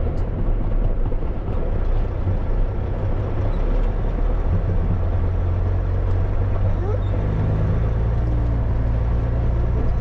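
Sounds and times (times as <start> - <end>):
diesel truck engine rumbling: 0.0 - 10.0.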